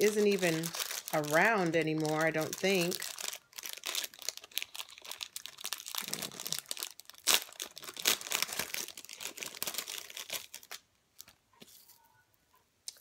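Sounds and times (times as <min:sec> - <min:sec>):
packaging crackling and rustling: 0:00.0 - 0:12.0.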